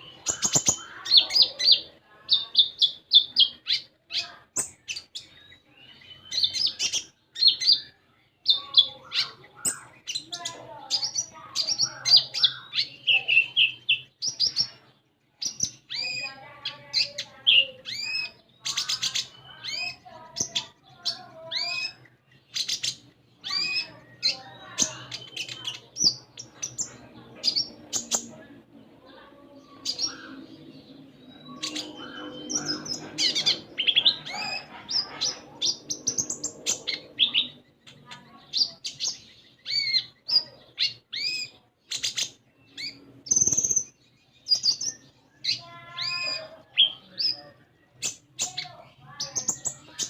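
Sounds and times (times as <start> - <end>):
songbird chirping: 0.0 - 50.0.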